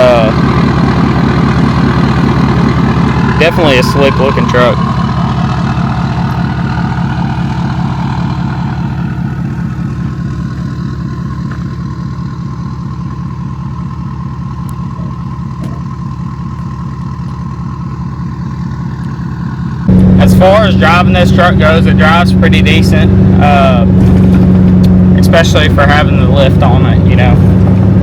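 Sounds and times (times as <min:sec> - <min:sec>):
diesel engine idling rumble: 0:00.0 - 0:28.0.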